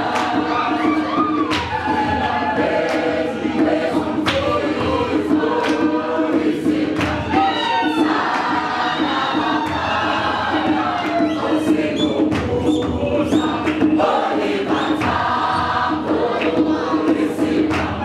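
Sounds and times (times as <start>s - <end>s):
choir singing unaccompanied: 0.0s - 18.0s
sharp beats keeping time: 0.0s - 18.0s.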